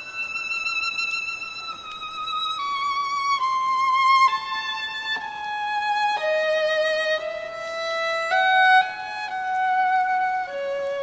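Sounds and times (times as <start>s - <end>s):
violin playing slow melody: 0.0s - 11.0s.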